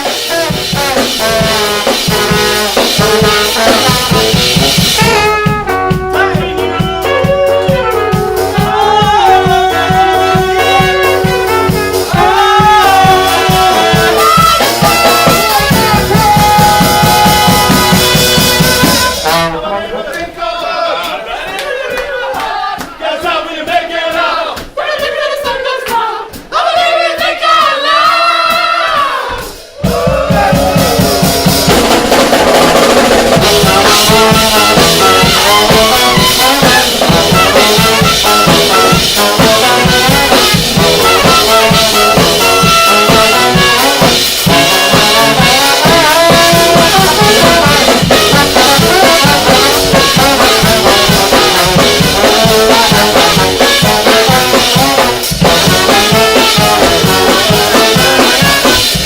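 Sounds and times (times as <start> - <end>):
brass band playing rock: 0.0 - 59.0.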